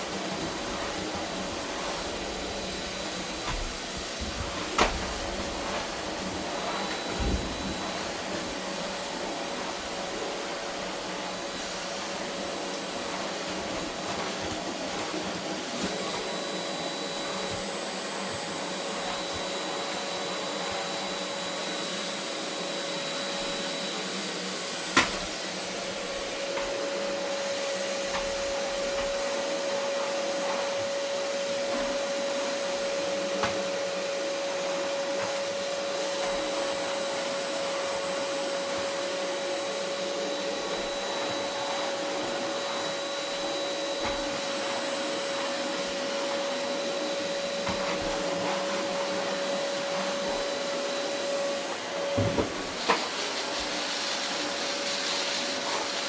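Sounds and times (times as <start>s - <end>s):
vacuum cleaner humming: 0.0s - 56.0s.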